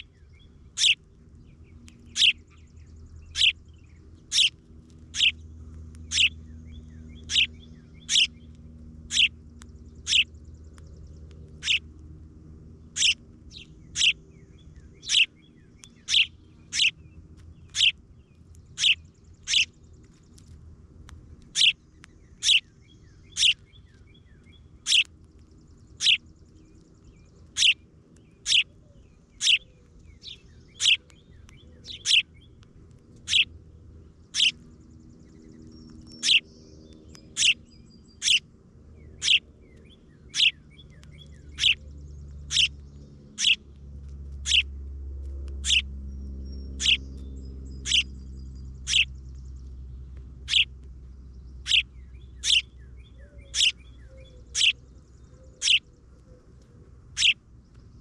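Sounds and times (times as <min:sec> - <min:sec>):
bird chirping: 0:00.0 - 0:12.0, 0:12.8 - 0:20.6, 0:21.3 - 0:43.7, 0:44.3 - 0:44.7, 0:45.5 - 0:58.0.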